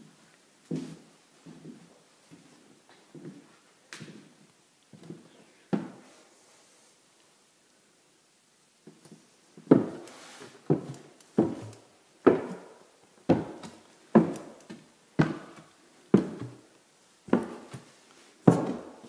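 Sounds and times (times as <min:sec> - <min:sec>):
echoing footsteps on bare subfloor: 0:00.0 - 0:06.1, 0:08.9 - 0:19.0.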